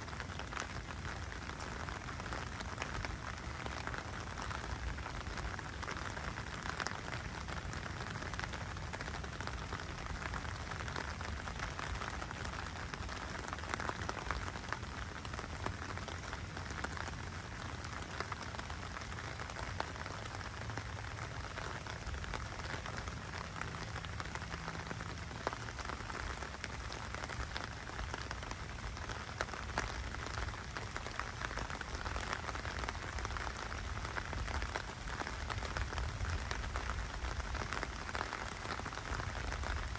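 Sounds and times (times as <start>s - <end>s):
rain on a flooded street: 0.0s - 39.9s.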